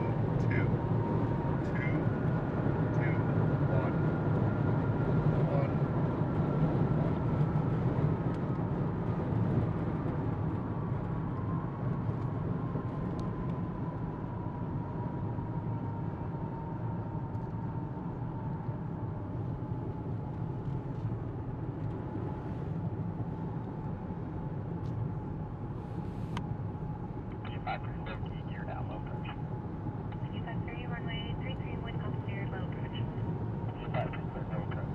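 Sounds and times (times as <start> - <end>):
jet engine on takeoff: 0.0 - 34.9.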